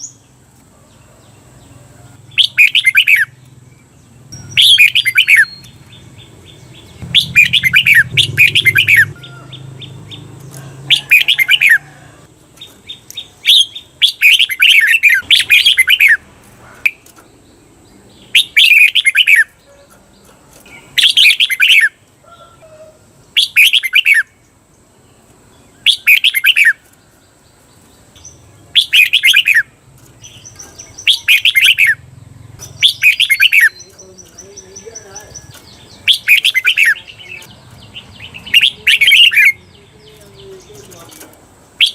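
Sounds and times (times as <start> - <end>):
bird singing warbled phrases: 1.1 - 41.9.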